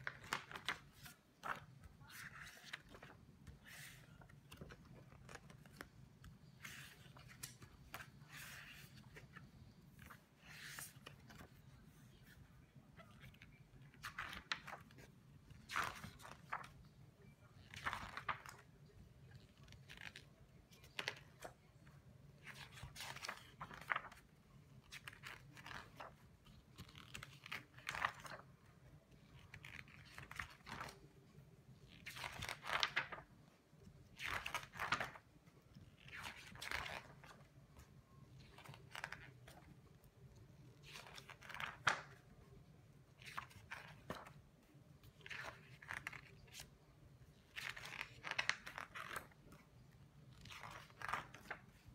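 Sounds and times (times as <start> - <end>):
book pages turning: 0.0 - 51.9.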